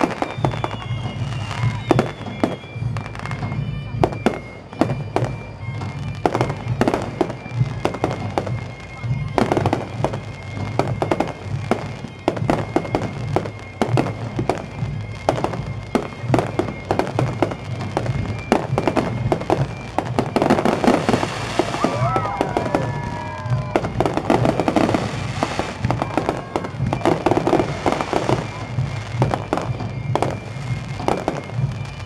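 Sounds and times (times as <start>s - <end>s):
firework crackles: 0.0s - 32.0s.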